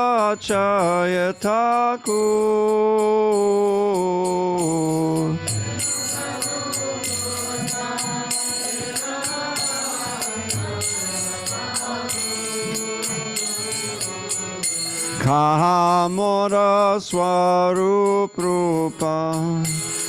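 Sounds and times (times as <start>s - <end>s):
hand cymbals ringing: 0.0s - 20.0s
man singing lead: 0.0s - 20.0s
voices singing devotional song: 0.0s - 20.0s.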